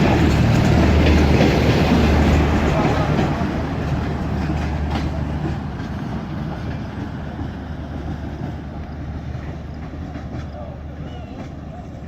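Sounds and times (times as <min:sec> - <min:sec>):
steady low train drone: 0:00.0 - 0:12.0
train wheels clicking over rail joints: 0:00.0 - 0:12.0.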